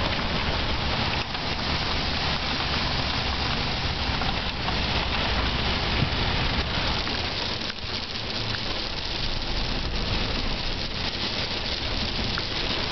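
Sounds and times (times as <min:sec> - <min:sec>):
hard rain on vehicle roof: 0:00.0 - 0:12.9.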